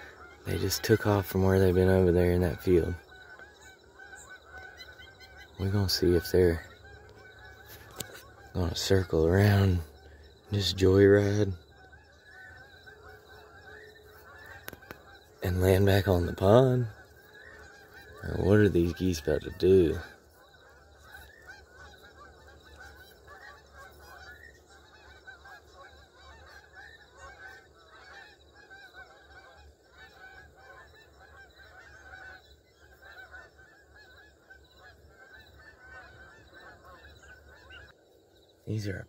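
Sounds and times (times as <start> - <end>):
geese honking: 0.0 - 39.0.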